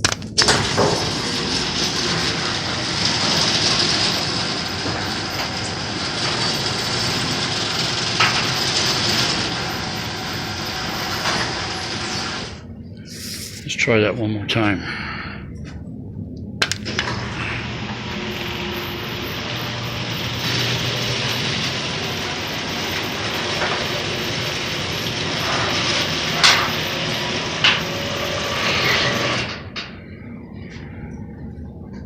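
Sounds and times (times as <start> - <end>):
garage door rattling: 0.0 - 12.6, 16.6 - 30.0.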